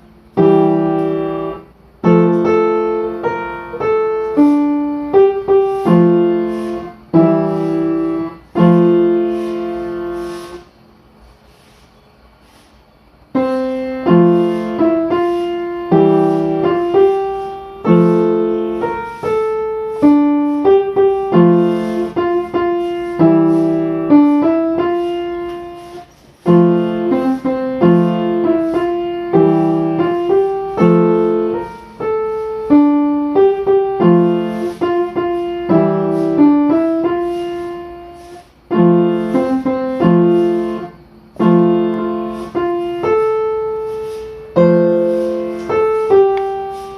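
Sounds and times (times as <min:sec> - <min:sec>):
solo piano music: 0:00.0 - 0:10.7, 0:13.2 - 0:46.9.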